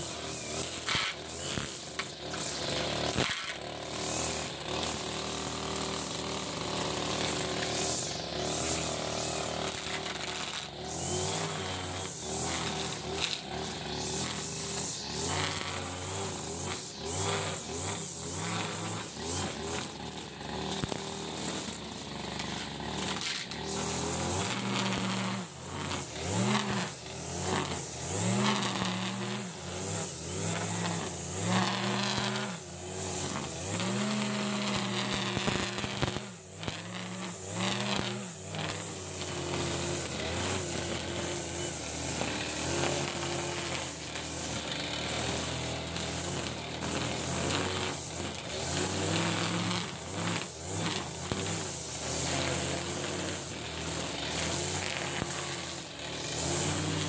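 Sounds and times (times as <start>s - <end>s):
brush cutter engine revving: 0.0s - 57.0s.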